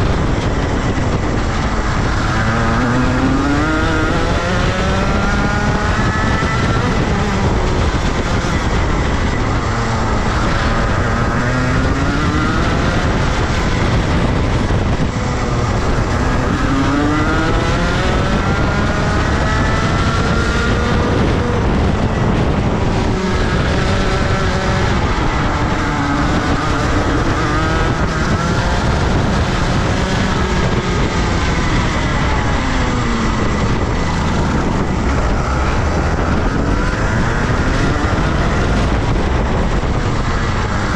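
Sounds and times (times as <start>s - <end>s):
kart two-stroke engine accelerating: 0.0s - 40.9s.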